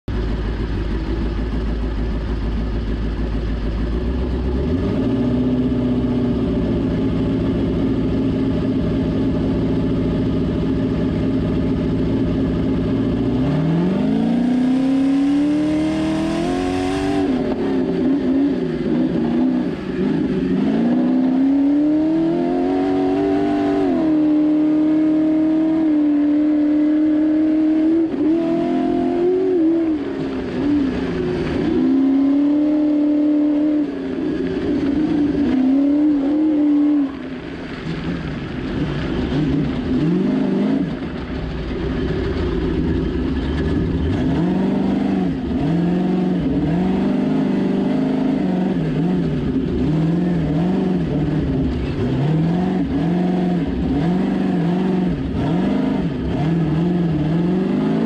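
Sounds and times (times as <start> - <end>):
race car engine revving: 3.7 - 58.0.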